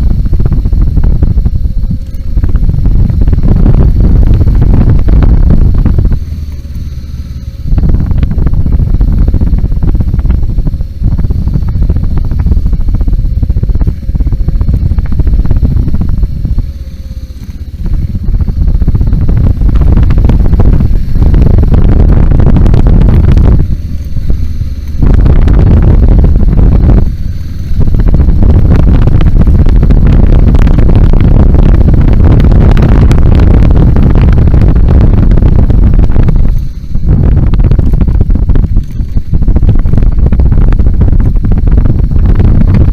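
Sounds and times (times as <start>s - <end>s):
motorcycle engine: 0.0s - 42.9s
wind buffeting on microphone: 0.0s - 42.9s.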